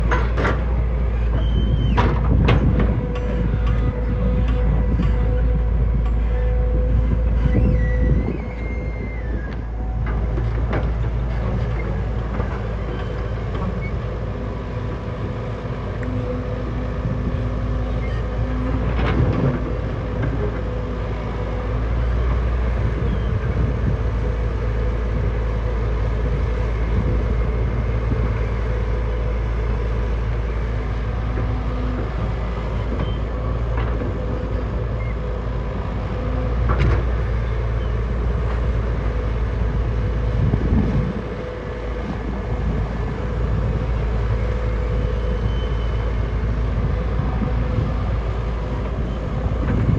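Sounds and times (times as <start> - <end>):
diesel engines droning: 0.0 - 49.9.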